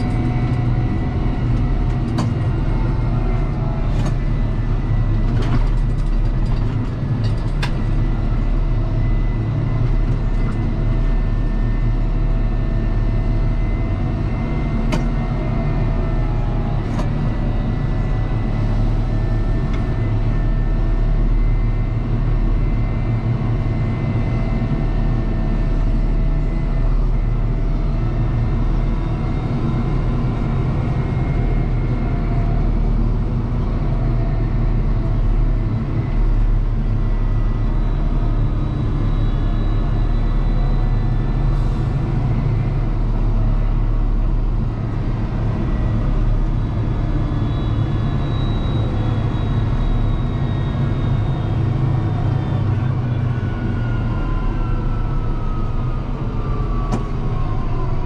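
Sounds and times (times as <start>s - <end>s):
tractor diesel engine droning: 0.0s - 58.0s.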